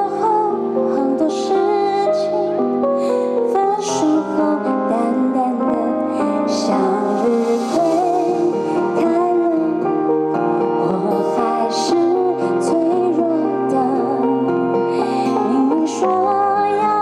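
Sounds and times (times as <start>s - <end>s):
instrumental accompaniment: 0.0s - 17.0s
woman singing into microphone: 0.0s - 17.0s.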